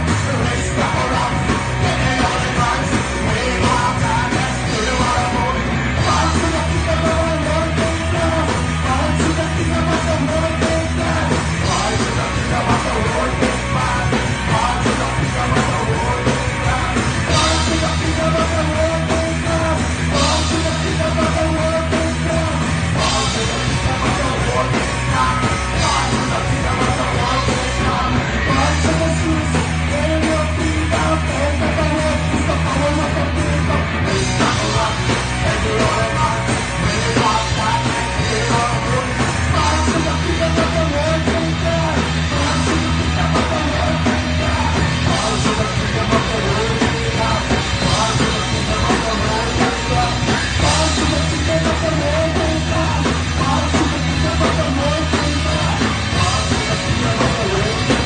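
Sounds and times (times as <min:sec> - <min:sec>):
bass guitar: 0:00.0 - 0:58.0
drum kit: 0:00.0 - 0:58.0
electric guitar: 0:00.0 - 0:58.0
person singing: 0:00.0 - 0:58.0.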